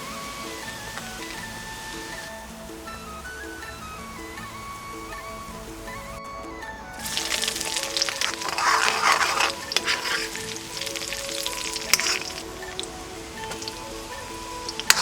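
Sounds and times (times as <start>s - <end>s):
food sizzling in hot oil: 0.0s - 5.9s, 6.9s - 15.0s
background music: 0.0s - 15.0s.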